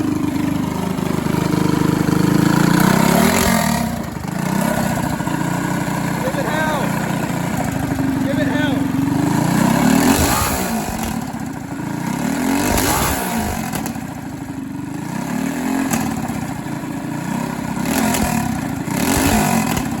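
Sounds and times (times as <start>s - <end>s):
small engine revving: 0.0s - 20.0s.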